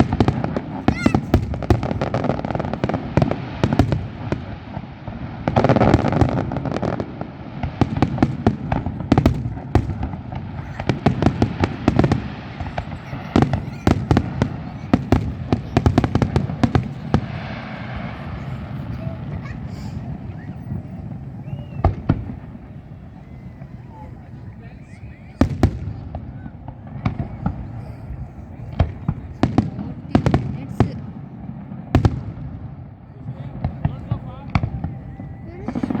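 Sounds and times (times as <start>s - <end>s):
fireworks bangs and pops: 0.0s - 36.0s.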